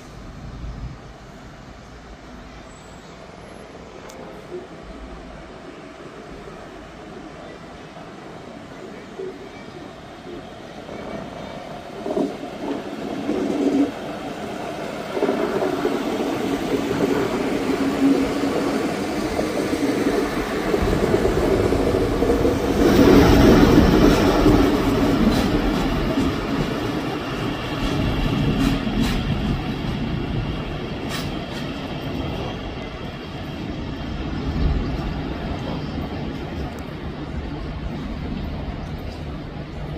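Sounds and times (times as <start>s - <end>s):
diesel train passing: 0.0s - 39.9s.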